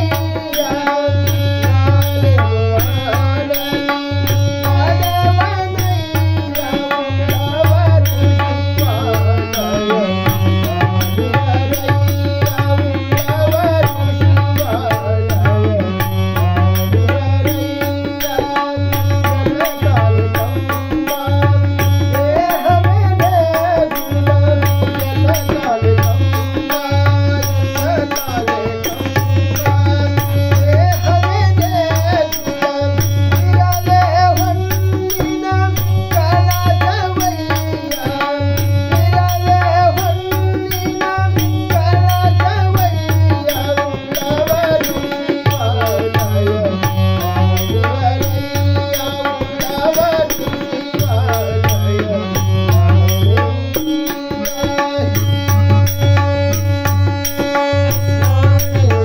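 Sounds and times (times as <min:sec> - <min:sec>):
harmonium: 0:00.0 - 0:59.0
man singing: 0:00.0 - 0:59.0
percussion beat: 0:00.0 - 0:59.0.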